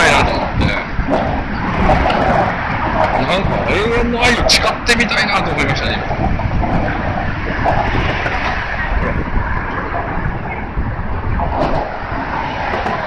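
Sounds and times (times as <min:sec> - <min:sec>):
road traffic rushing: 0:00.0 - 0:13.0
wind buffeting microphone: 0:00.0 - 0:13.0.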